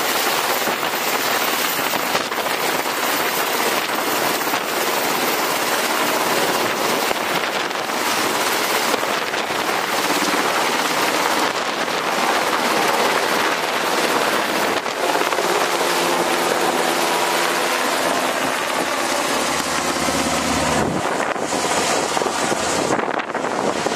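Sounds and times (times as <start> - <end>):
helicopter rotors and engines: 0.0 - 23.9.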